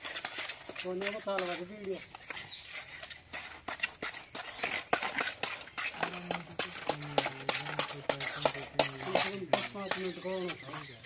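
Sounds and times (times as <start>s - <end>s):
trowel scraping plaster: 0.0s - 11.0s.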